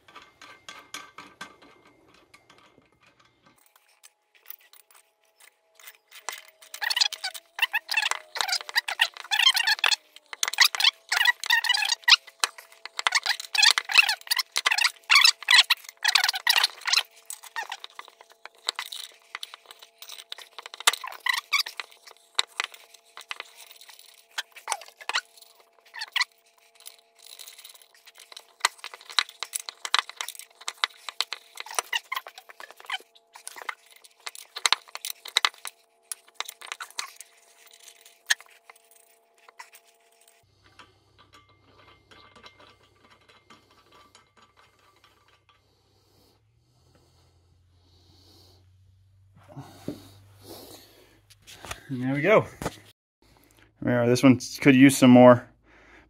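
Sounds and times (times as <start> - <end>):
tap squeaking and scraping metal: 0.0 - 46.3, 49.6 - 50.2.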